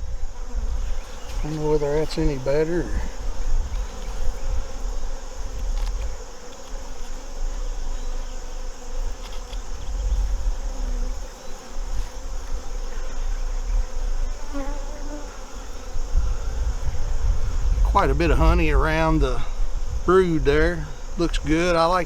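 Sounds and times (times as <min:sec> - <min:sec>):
bees buzzing: 0:00.0 - 0:18.2.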